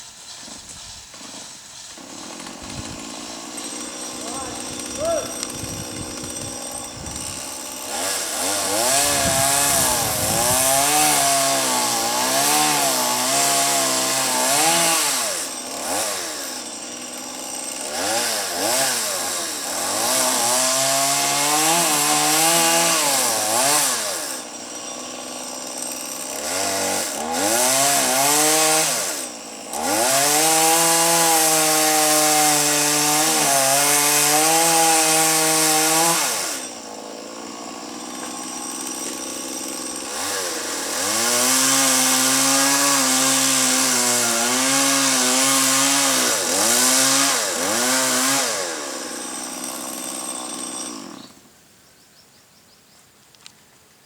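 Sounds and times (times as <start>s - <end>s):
chainsaw cutting wood: 0.0s - 51.6s.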